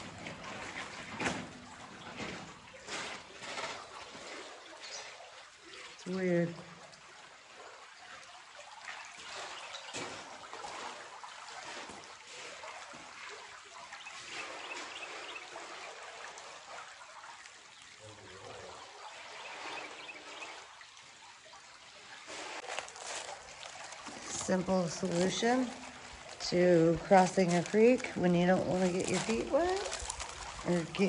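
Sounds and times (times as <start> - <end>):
creek water babbling over rocks: 0.0 - 31.0.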